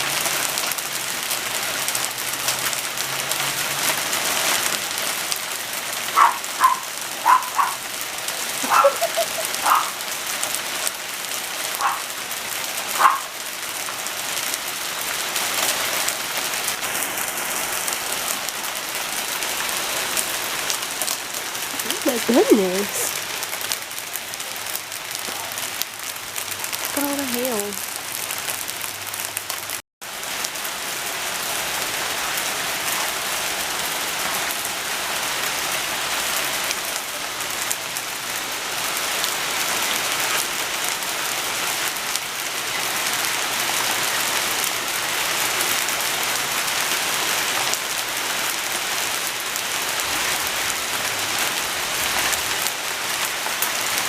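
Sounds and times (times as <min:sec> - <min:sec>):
heavy hail falling: 0:00.0 - 0:54.0.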